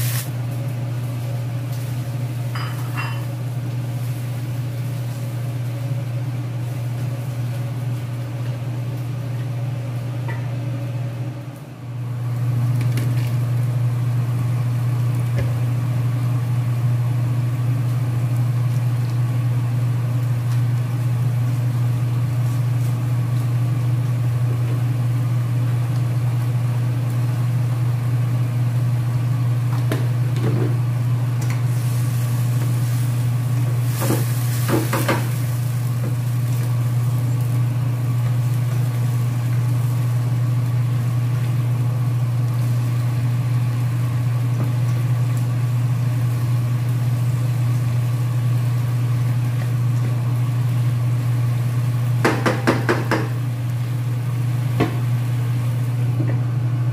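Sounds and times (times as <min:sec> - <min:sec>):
steady low hum: 0:00.0 - 0:56.9
vegetables sizzling in a frying pan: 0:00.0 - 0:56.9.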